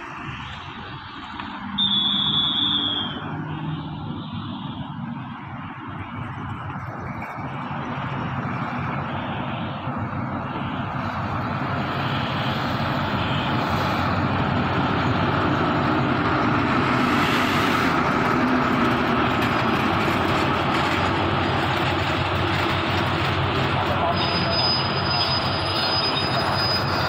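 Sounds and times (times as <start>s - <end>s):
locomotive engine droning: 0.0s - 27.0s.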